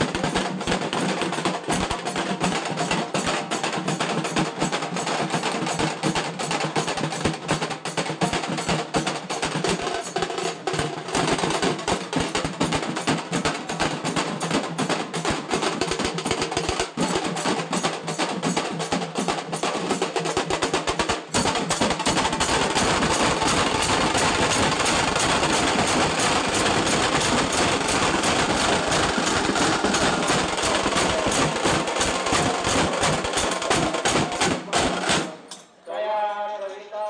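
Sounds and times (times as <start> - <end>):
fast dense drumming: 0.0 - 35.5.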